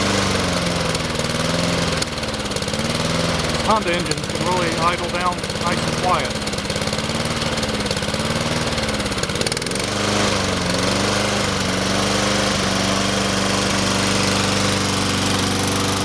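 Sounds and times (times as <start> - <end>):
lawn mower engine idling: 0.0 - 16.0.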